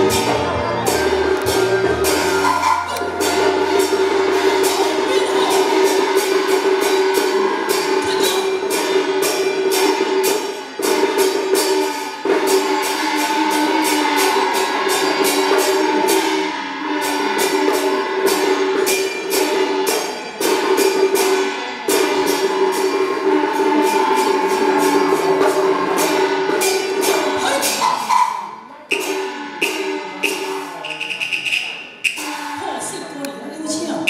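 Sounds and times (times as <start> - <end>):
fast percussion strokes: 0.0 - 34.0
opera accompaniment ensemble: 0.0 - 34.0.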